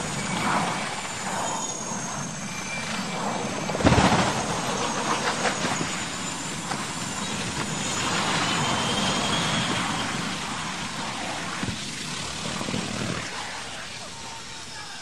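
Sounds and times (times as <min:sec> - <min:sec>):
propeller aircraft engine: 0:00.0 - 0:14.8
steady rushing noise: 0:00.0 - 0:15.0.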